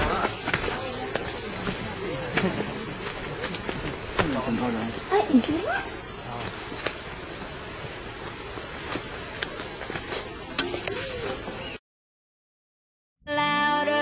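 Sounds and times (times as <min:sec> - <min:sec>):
insect chorus drone: 0:00.0 - 0:11.8.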